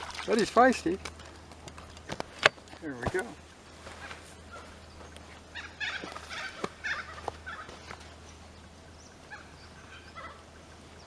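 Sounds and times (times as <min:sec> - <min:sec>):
birds chattering calls: 0:00.5 - 0:11.0.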